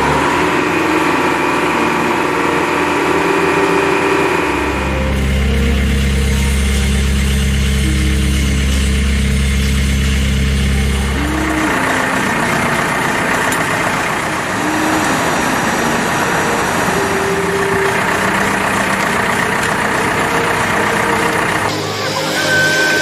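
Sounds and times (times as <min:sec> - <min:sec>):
concrete mixer engine running: 0:00.0 - 0:23.0.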